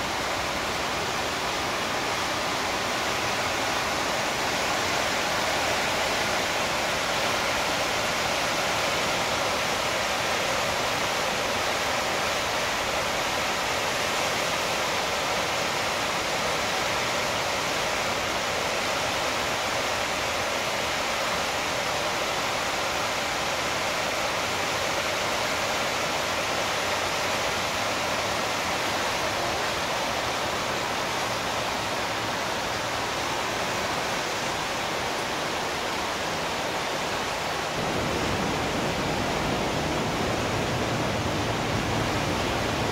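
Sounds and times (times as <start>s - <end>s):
floodwater rushing through channel: 0.0s - 42.9s.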